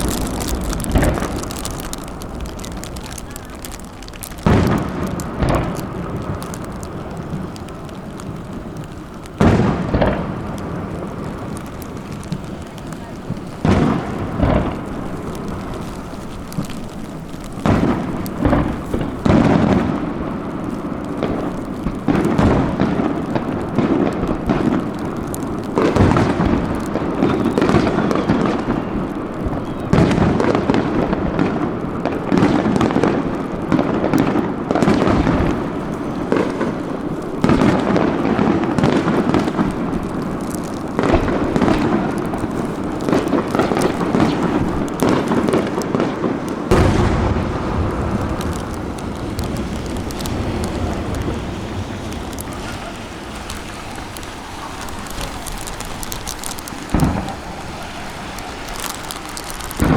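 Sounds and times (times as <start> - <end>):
echoing rumbles: 0.0 - 32.0, 33.2 - 59.9
fireworks booming and crackling: 0.0 - 59.9.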